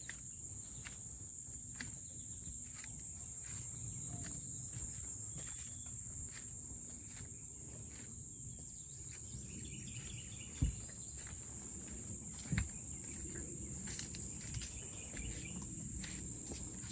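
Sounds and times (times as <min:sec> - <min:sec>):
high-pitched insect chorus: 0:00.0 - 0:16.9.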